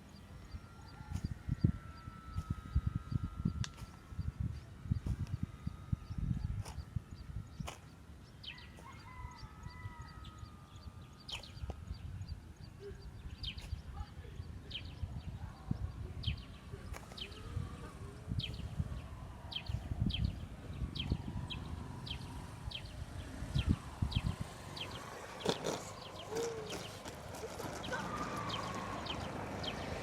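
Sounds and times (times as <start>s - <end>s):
birds chirping: 0.0s - 30.0s
wind rumble on microphone: 0.0s - 30.0s.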